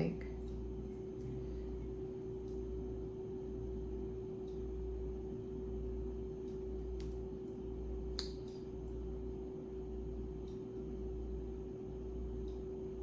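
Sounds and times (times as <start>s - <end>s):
mid-pitched background hum: 0.0s - 13.0s.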